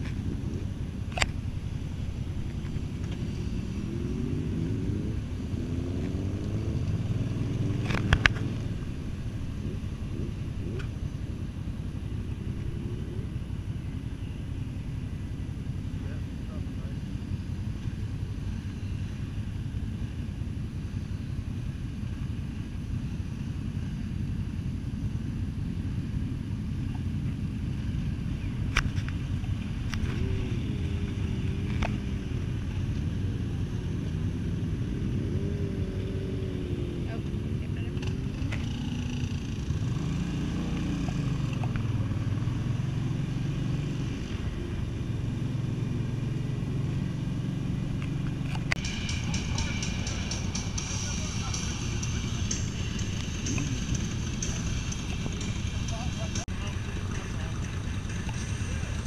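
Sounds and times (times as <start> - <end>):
motorcycle engine rumble: 0.0 - 59.0.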